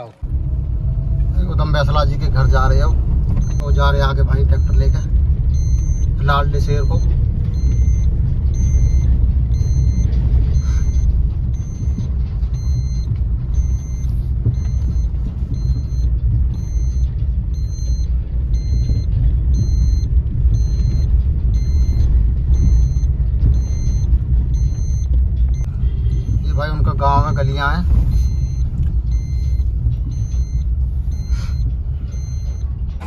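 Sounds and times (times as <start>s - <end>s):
car rumbling from inside: 0.0s - 33.0s.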